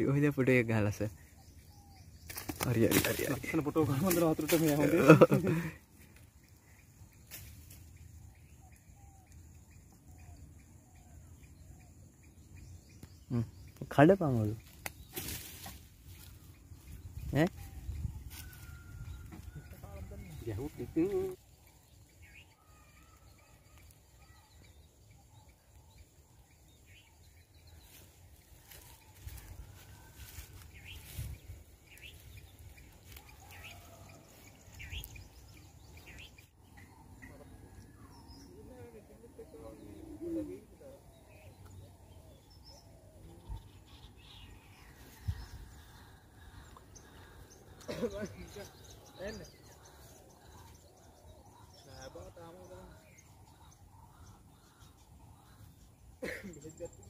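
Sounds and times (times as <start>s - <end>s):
low outdoor background: 0.0s - 57.0s
faint bird chirps: 5.1s - 57.0s.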